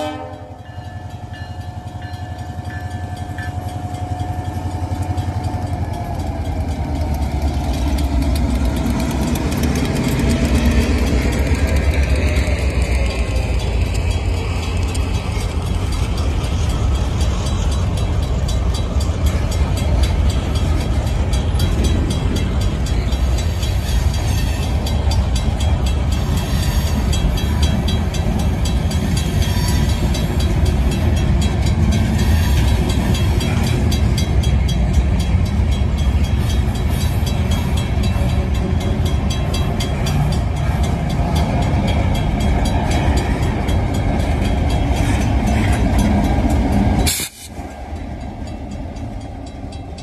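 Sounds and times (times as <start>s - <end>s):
diesel locomotive passing: 0.0s - 50.0s
steel wheels rumbling on rail: 0.0s - 50.0s.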